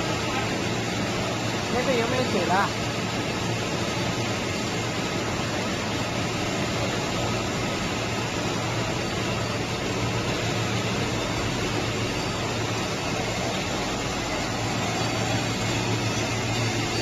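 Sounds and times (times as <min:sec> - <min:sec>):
production line machine noise: 0:00.0 - 0:17.0.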